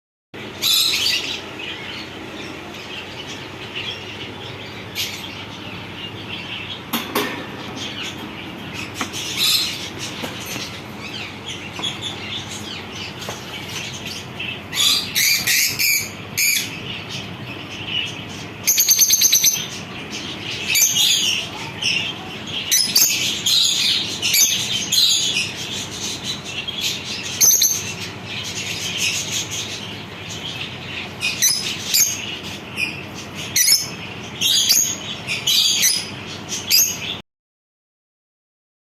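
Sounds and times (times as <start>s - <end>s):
lovebirds chirping: 0.4s - 37.2s.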